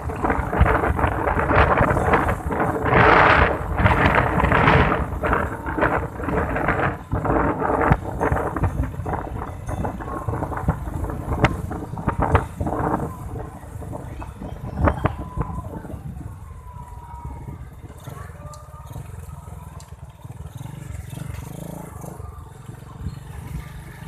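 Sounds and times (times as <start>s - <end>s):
low rumble: 0.0s - 20.1s
wind buffeting microphone: 0.0s - 23.8s.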